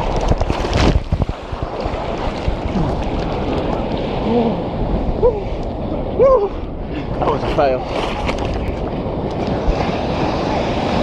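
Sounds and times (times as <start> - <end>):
ocean surf splashing: 0.0 - 11.0
wind on microphone: 0.0 - 11.0.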